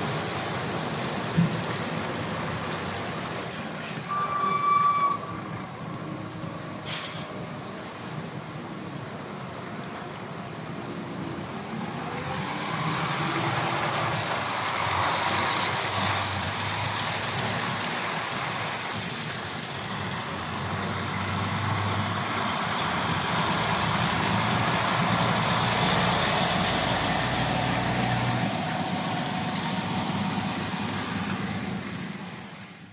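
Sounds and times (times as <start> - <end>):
lorry diesel engines running: 0.0 - 32.9
tyres hissing on wet road: 0.0 - 32.9.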